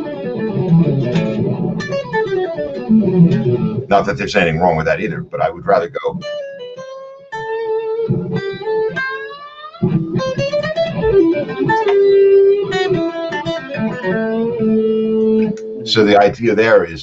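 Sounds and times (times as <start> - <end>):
electric guitar lead melody: 0.0 - 16.3.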